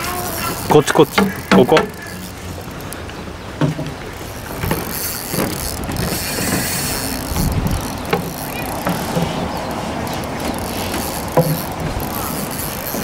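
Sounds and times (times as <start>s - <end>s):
fishing reel whirring: 0.0s - 3.1s, 4.1s - 13.0s.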